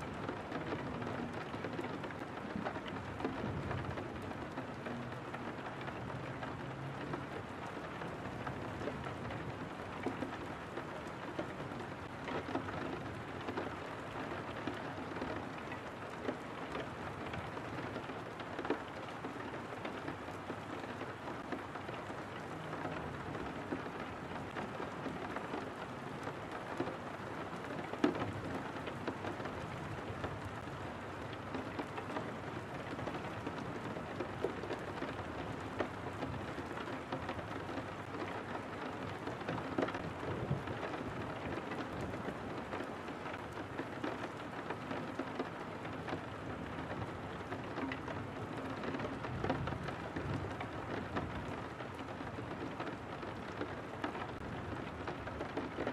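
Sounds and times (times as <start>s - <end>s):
rain pattering on a window: 0.0s - 55.9s.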